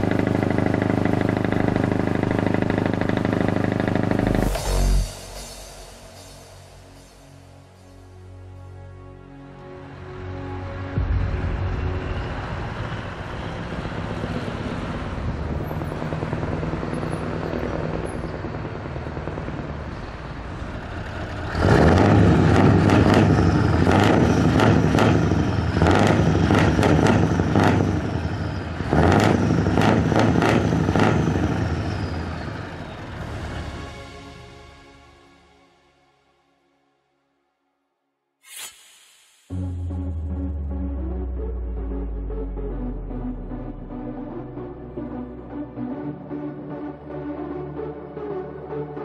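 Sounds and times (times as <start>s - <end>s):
truck engine idling and revving: 0.0s - 34.8s, 39.5s - 49.0s.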